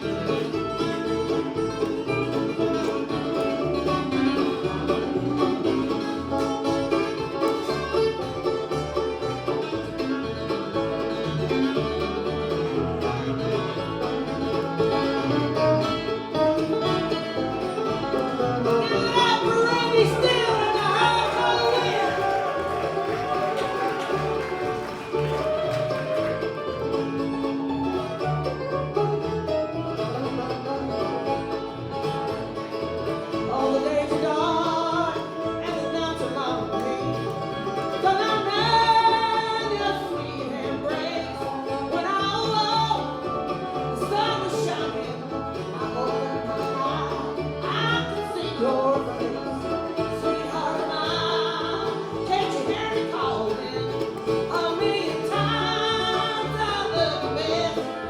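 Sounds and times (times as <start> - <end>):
acoustic guitar: 0.0 - 58.0
banjo: 0.0 - 58.0
bluegrass band playing: 0.0 - 58.0.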